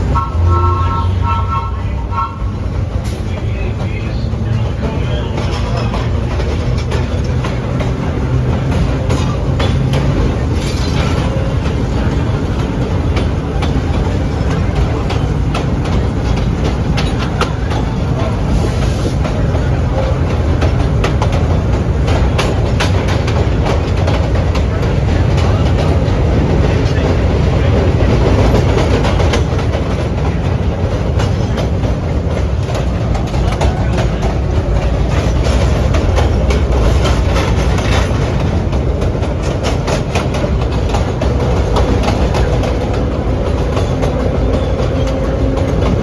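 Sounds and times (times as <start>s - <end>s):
subway car rumbling: 0.0s - 46.0s
wheels clicking over rail joints: 0.0s - 46.0s.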